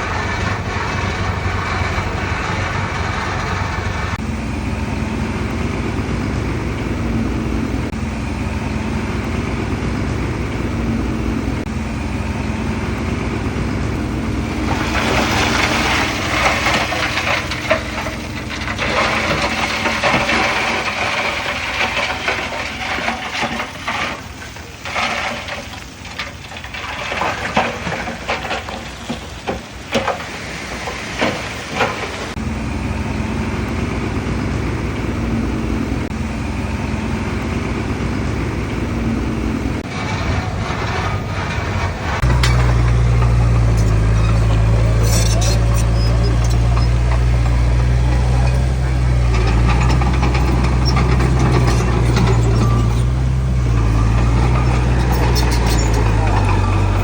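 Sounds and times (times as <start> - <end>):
rough scraping and crackling: 0.0 - 4.6, 5.2 - 36.5, 37.2 - 57.0
heavy diesel machinery running: 0.0 - 57.0.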